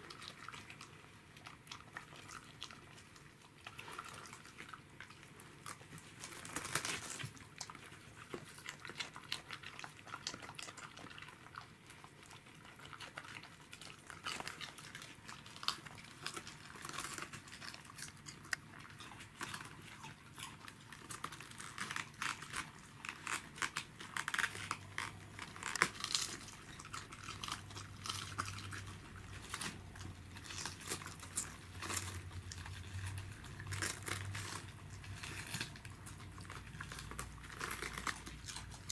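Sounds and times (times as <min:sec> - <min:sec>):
dog crunching cabbage leaves: 0:00.0 - 0:38.9.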